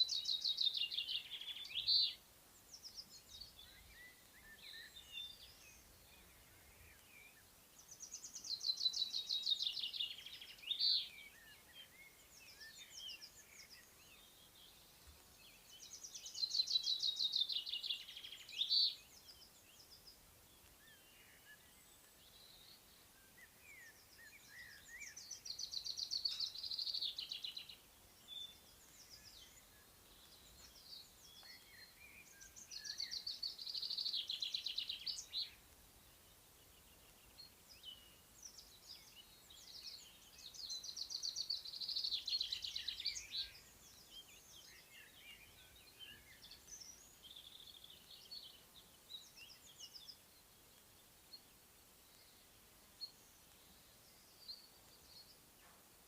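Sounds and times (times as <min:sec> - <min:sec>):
faint bird chirps: 0:00.0 - 0:56.0
songbird singing: 0:00.0 - 0:56.0.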